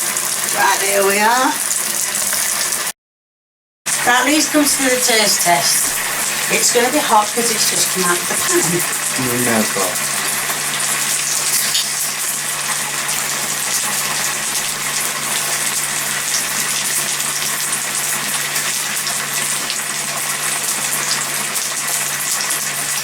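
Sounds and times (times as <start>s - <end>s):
food sizzling in a pan: 0.0s - 2.9s, 3.9s - 23.0s.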